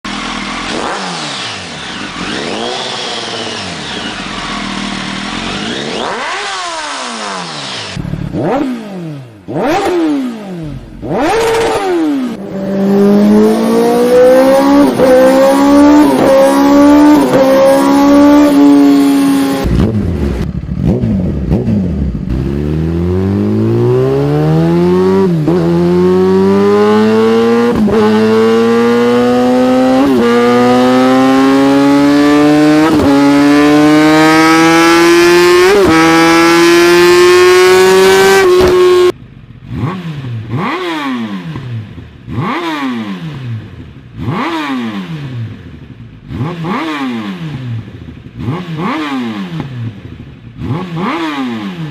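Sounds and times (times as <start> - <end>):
motorcycle engine accelerating hard: 0.1 - 51.9.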